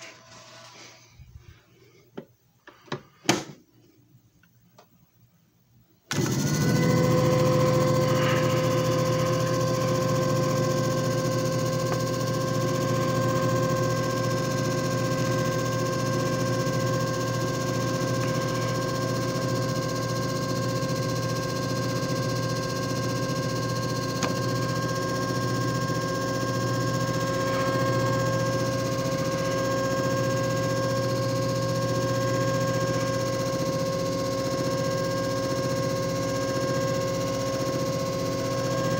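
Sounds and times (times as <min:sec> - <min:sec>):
machine motor humming and whining: 0:06.1 - 0:38.9.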